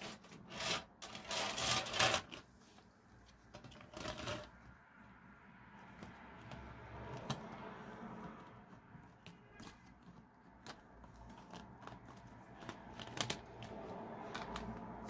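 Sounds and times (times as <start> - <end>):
rustling and scraping of paper: 0.0 - 15.0.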